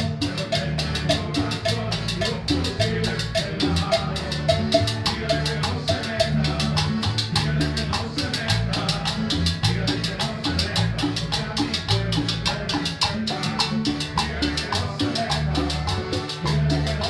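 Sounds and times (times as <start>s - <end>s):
acoustic guitar: 0.0s - 17.0s
electric bass: 0.0s - 17.0s
keyboard: 0.0s - 17.0s
percussion beat: 0.0s - 17.0s.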